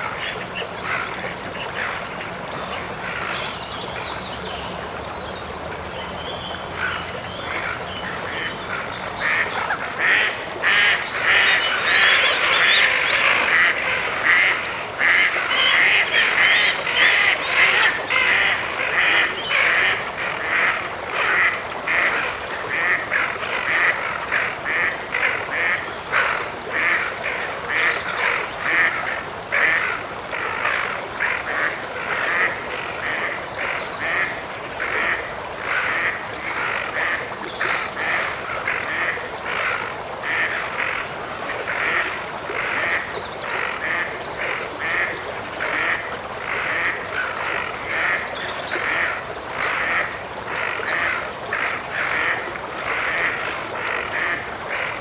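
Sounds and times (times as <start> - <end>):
waterbirds calling: 0.0 - 55.0.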